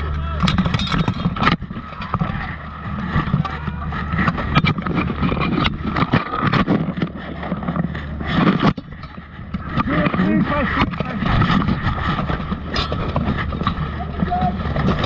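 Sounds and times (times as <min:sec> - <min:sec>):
plate armour clattering and scraping: 0:00.4 - 0:02.2, 0:03.1 - 0:15.0.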